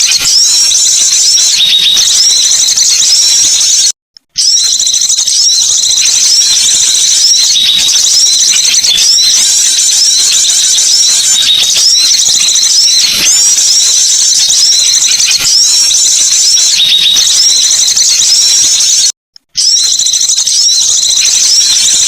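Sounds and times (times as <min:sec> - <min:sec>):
small birds chirping rapidly: 0:00.0 - 0:22.0.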